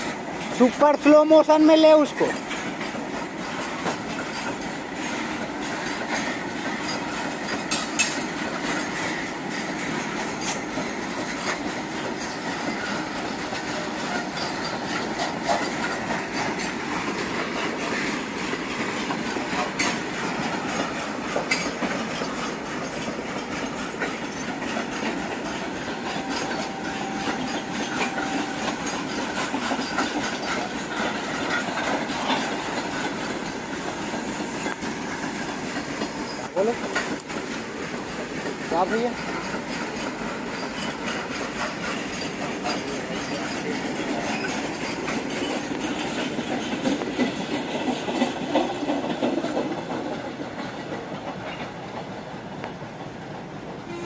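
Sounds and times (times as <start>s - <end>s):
distant train rumbling on rails: 0.0s - 54.0s
sharp rail clicks: 1.7s - 53.9s.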